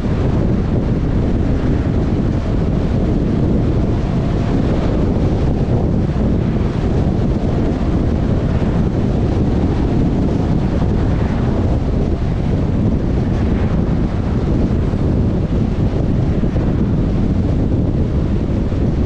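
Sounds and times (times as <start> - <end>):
car road and wind noise: 0.0 - 19.0.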